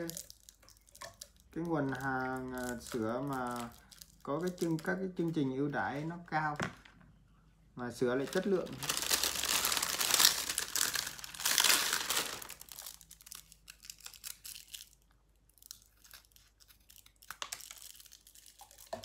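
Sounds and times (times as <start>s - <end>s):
plastic wrap crinkling and tearing: 0.0s - 6.1s, 8.1s - 19.0s.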